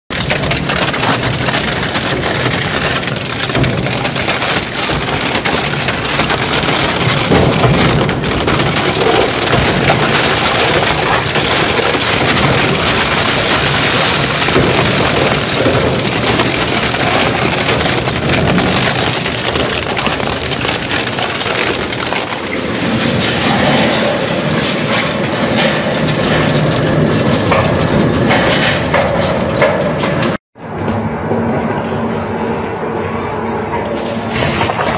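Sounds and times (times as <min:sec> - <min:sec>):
shredder crushing plastic and metal: 0:00.1 - 0:30.4, 0:34.3 - 0:34.9.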